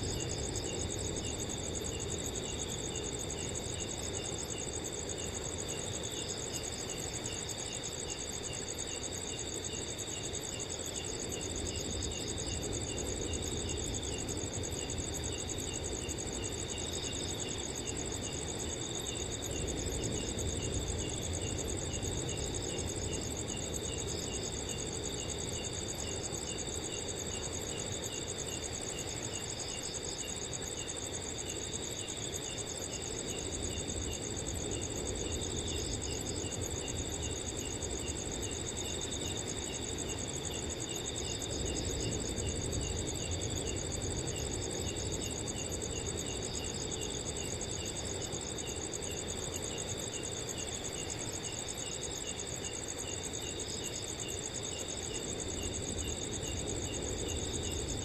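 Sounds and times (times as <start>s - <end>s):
cricket chirping in pulses: 0.0s - 58.0s
crickets trilling: 0.0s - 58.0s.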